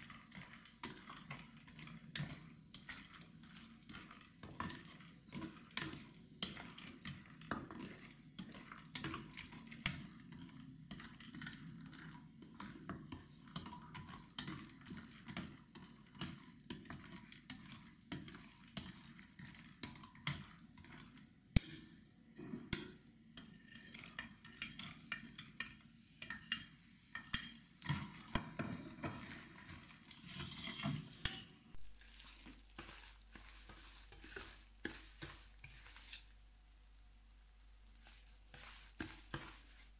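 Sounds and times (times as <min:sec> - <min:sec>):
spatula scraping frying pan: 0:00.0 - 0:21.3, 0:22.2 - 0:36.5, 0:38.0 - 0:39.9.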